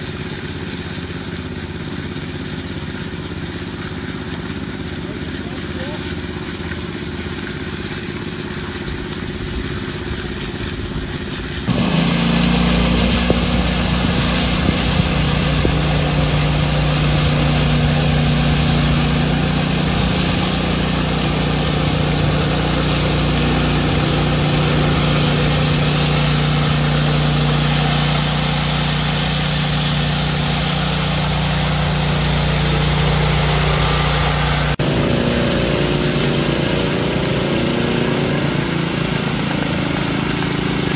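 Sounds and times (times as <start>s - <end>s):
ride-on power trowel engine hum: 0.0s - 40.9s
walk-behind trowel engine: 0.0s - 40.9s.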